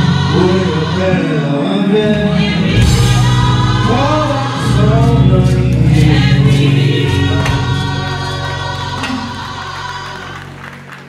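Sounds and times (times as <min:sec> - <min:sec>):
deep bass accompaniment: 0:00.0 - 0:11.0
gospel choir singing: 0:00.0 - 0:11.0.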